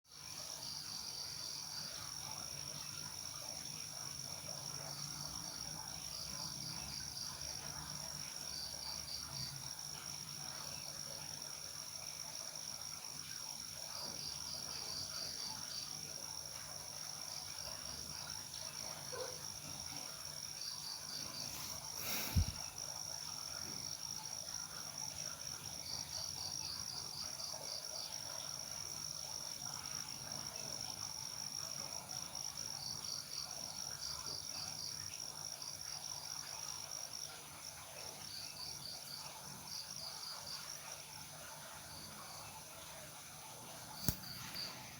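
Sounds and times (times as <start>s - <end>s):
crickets chirping: 0.1s - 44.9s.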